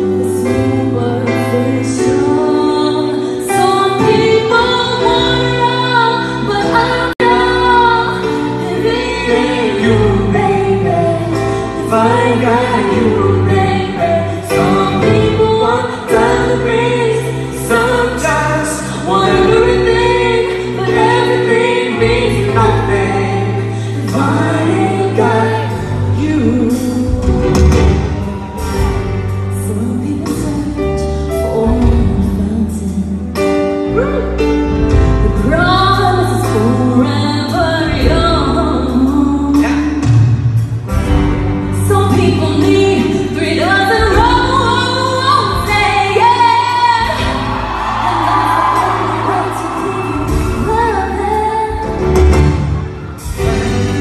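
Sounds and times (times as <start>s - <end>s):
woman singing into microphone: 0.0s - 40.6s, 41.8s - 54.0s
grand piano accompaniment: 0.0s - 54.0s.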